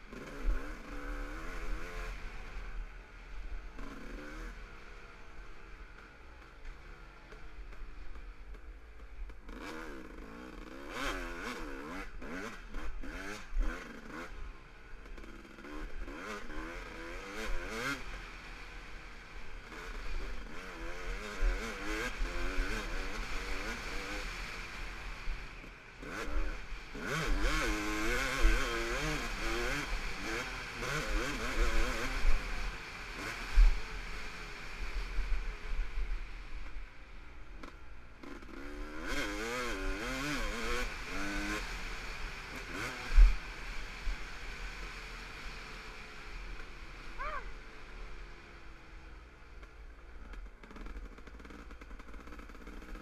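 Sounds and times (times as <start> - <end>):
dirt bike engine revving: 0.0 - 2.8, 3.6 - 6.1, 7.2 - 36.1, 37.6 - 48.3.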